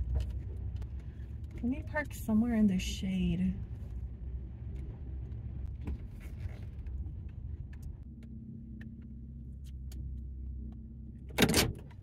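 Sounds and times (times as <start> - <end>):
car engine and road rumble: 0.0 - 12.0
steady low hum: 0.0 - 12.0.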